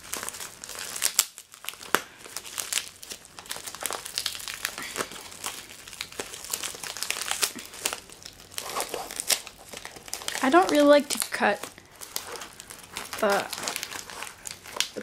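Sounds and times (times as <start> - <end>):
envelope crinkling: 0.0 - 15.0.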